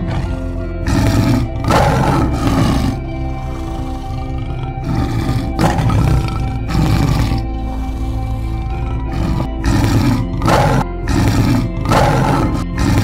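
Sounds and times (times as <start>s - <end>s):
background music: 0.0s - 13.0s
big cat roaring: 0.0s - 13.0s.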